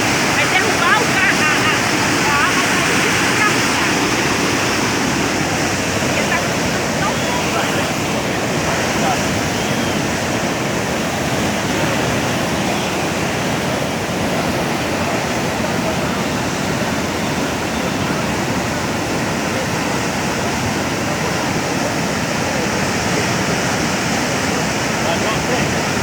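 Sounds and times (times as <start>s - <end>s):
floodwater rushing over street: 0.0s - 26.0s.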